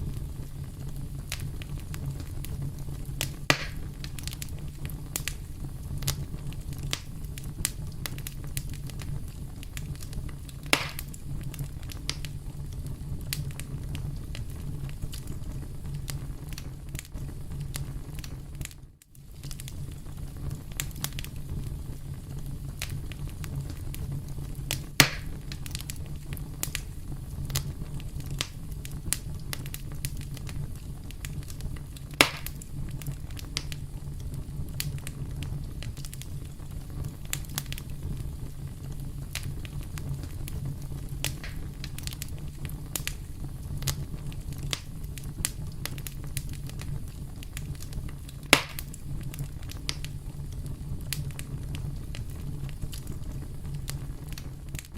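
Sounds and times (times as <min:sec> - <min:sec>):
campfire crackling: 0:00.0 - 0:54.9
fire pops: 0:00.0 - 0:54.9.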